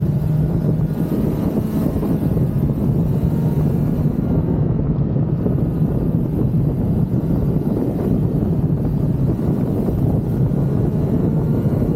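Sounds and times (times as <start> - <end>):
motorcycle engine cruising: 0.0 - 11.9
wind rushing over microphone: 0.0 - 11.9.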